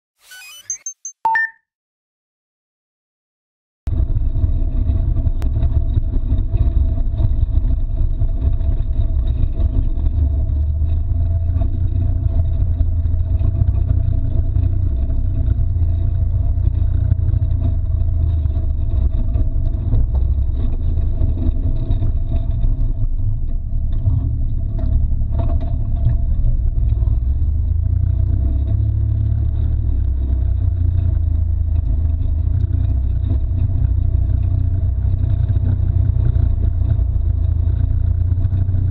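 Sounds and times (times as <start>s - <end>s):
low engine and drivetrain rumble: 3.9s - 38.9s.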